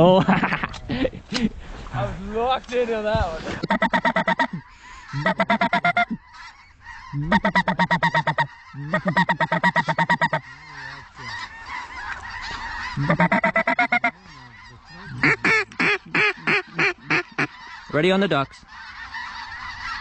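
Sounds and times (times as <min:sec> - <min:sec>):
geese chattering: 0:03.5 - 0:20.0
goose honking: 0:03.6 - 0:20.0.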